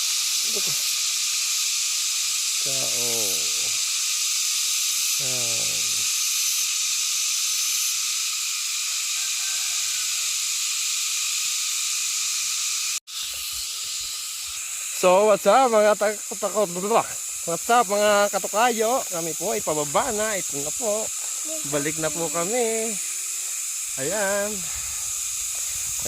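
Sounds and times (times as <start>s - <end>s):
forest insects droning: 0.0s - 26.0s.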